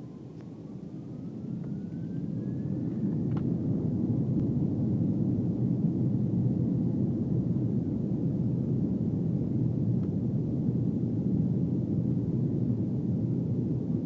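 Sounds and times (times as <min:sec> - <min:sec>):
jet engines low rumble: 0:00.0 - 0:14.0.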